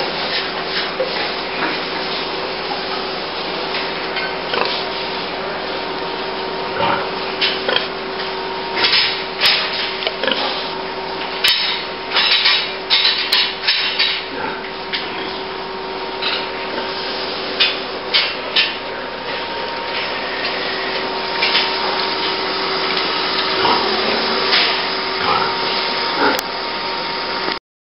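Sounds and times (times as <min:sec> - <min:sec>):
constant hum: 0:00.0 - 0:27.6.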